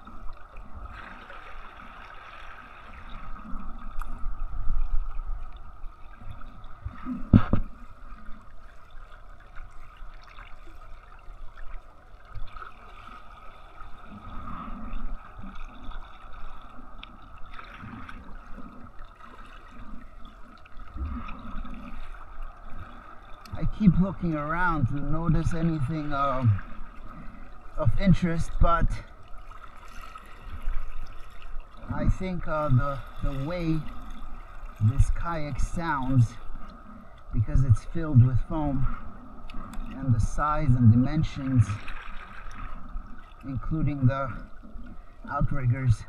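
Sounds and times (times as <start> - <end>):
water lapping against a kayak hull: 0.0 - 46.0.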